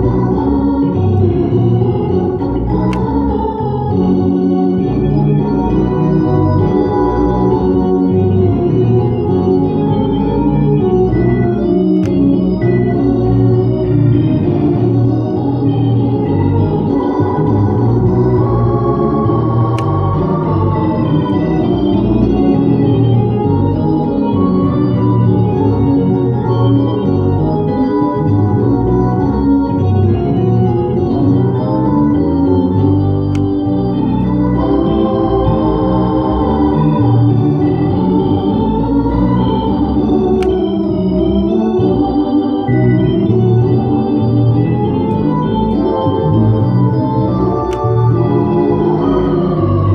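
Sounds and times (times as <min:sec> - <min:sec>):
hammond organ chords: 0:00.0 - 0:49.9.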